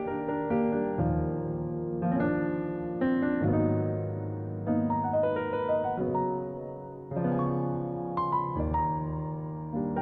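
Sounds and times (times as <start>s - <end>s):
slow lullaby piano: 0.0s - 10.0s.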